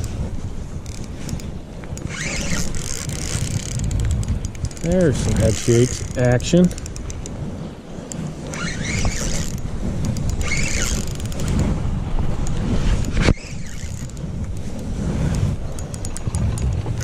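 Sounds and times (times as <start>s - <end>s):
wind on microphone: 0.0s - 17.0s
fishing reel buzzing: 0.8s - 7.3s, 8.1s - 11.6s, 12.4s - 14.7s, 15.7s - 17.0s.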